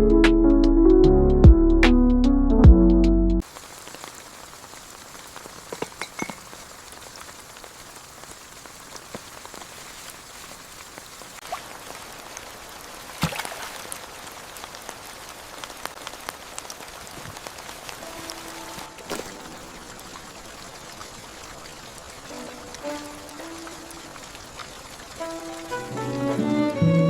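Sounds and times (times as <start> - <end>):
rain hissing: 3.4 - 13.2, 13.8 - 27.0.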